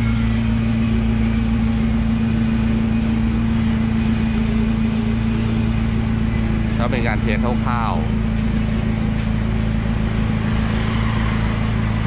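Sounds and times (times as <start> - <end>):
car engine idling through muffler: 0.0 - 12.0.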